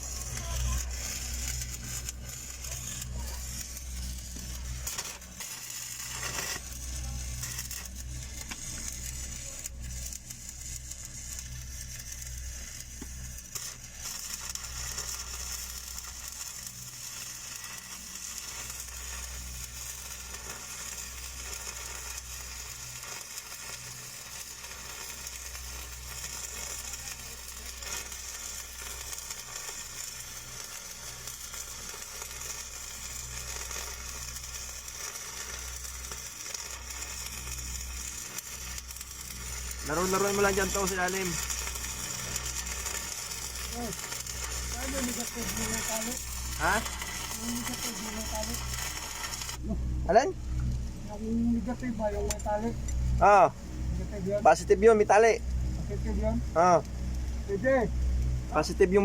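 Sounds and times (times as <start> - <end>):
low steady hum: 0.0 - 23.7, 31.3 - 59.0
welding arc crackling and sizzling: 0.0 - 59.0.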